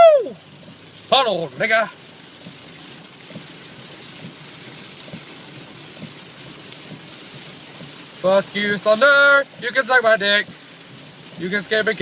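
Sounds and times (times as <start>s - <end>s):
car driving in rain: 0.0s - 12.0s
rain drops ticking: 0.0s - 12.0s.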